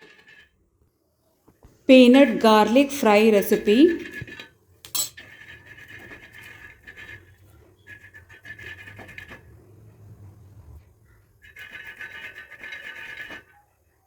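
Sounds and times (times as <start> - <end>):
spatula scraping dry pan: 0.0 - 0.6, 1.9 - 10.0, 11.0 - 14.0.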